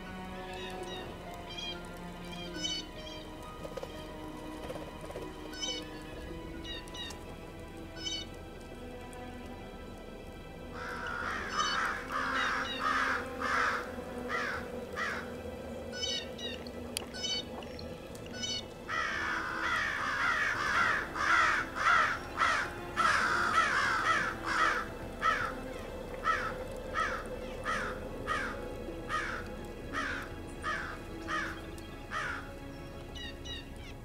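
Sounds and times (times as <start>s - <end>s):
crows cawing: 0.1s - 3.3s, 5.2s - 8.4s, 10.7s - 33.6s.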